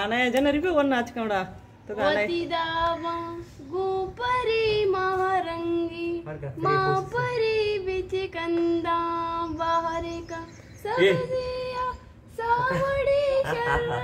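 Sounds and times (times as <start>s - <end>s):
young woman singing unaccompanied: 1.9s - 14.0s.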